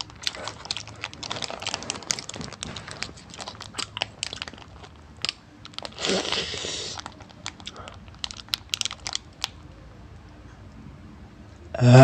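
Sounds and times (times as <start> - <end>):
candy wrapper crinkling: 0.0 - 9.8.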